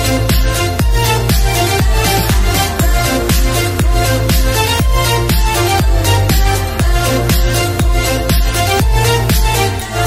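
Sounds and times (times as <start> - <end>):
electronic dance music: 0.0 - 10.0
steady kick drum: 0.0 - 10.0.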